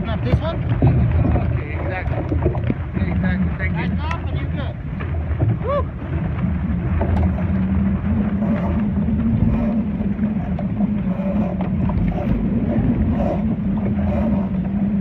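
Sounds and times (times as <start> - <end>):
boat motor running: 0.0 - 15.0
water splashing: 0.0 - 15.0
wind on microphone: 0.0 - 15.0.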